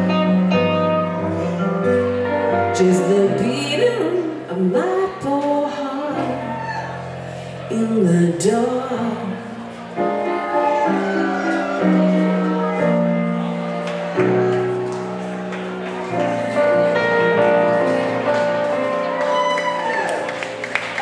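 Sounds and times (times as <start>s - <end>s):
keyboard chords: 0.0s - 21.0s.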